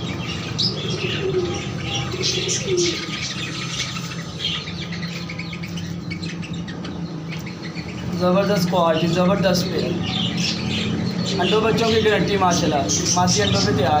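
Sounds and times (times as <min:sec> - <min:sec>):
high-pitched bird chirps: 0:00.0 - 0:14.0
pigeons cooing: 0:00.0 - 0:14.0.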